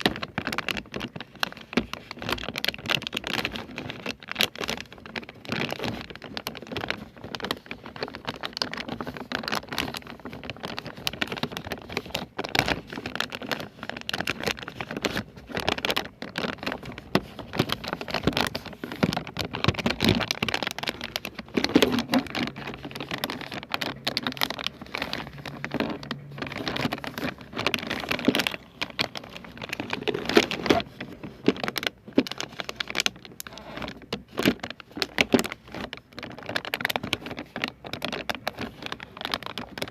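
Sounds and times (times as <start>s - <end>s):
crackling rustles: 0.0s - 39.9s
fingers tapping and scratching: 0.0s - 39.9s.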